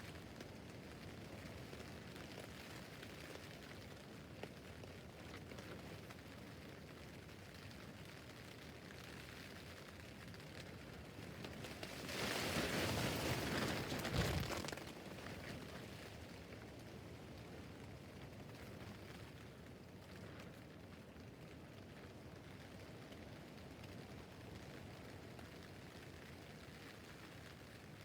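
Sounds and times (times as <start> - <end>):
rain on a tent roof: 0.0 - 28.0.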